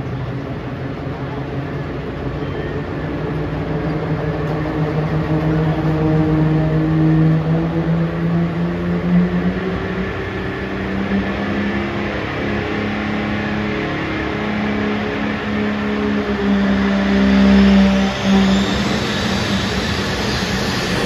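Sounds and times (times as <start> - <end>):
diesel engine at high revs: 0.0 - 21.0.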